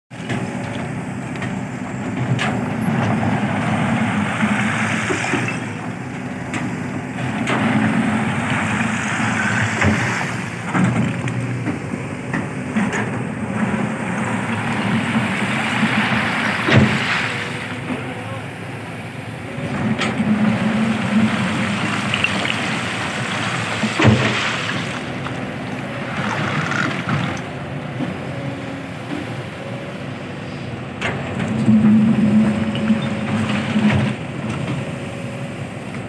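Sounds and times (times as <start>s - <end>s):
excavator diesel engine running: 0.1s - 36.0s.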